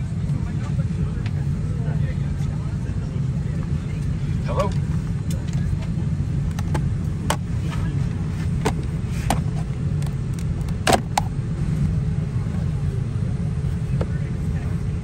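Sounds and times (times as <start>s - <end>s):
cabin air system rumble: 0.0s - 15.0s.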